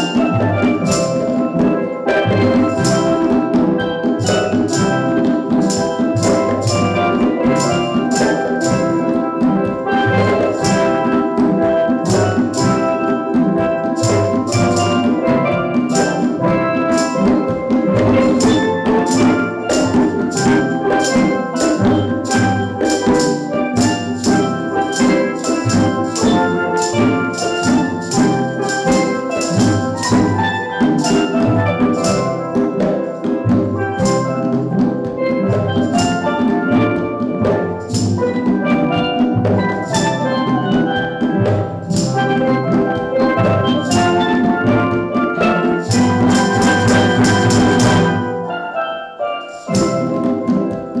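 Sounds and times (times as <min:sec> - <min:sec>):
drums keeping a beat: 0:00.0 - 0:48.7, 0:49.4 - 0:51.0
steel pan melody: 0:00.0 - 0:51.0.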